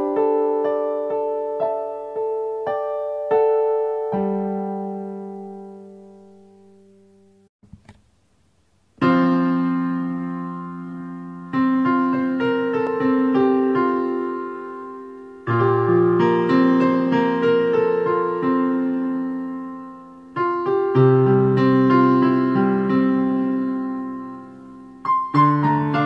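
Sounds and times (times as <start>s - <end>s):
piano music: 0.0s - 7.5s, 9.0s - 26.0s.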